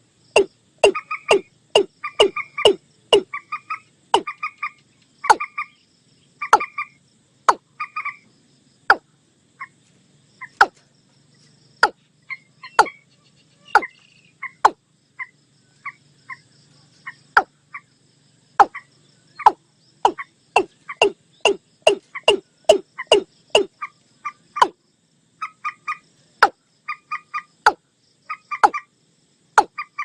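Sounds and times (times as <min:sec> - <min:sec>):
bird calls: 0:00.3 - 0:08.3, 0:10.4 - 0:18.0, 0:18.6 - 0:24.8, 0:25.4 - 0:28.9.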